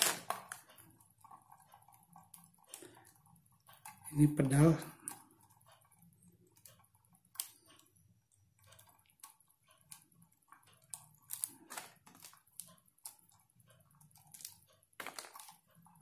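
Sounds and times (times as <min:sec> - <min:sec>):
cable rustling and clicking: 0:00.0 - 0:16.0.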